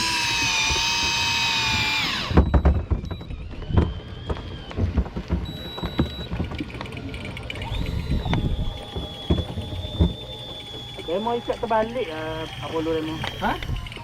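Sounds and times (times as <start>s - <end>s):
boat knocks and thumps: 0.0s - 14.0s
electric fishing reel whining: 0.0s - 14.0s.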